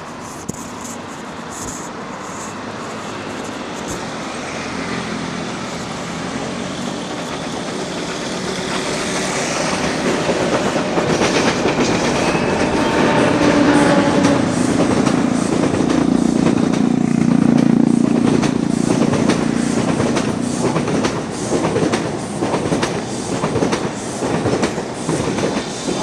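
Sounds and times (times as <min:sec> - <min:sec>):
train wheels clacking on rails: 0:00.0 - 0:26.0.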